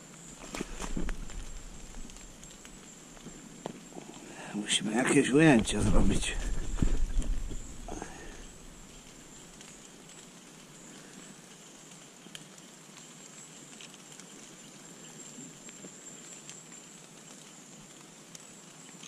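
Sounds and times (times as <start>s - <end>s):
drizzle ticking on leaves: 0.0s - 19.0s
low steady hiss: 0.0s - 19.0s.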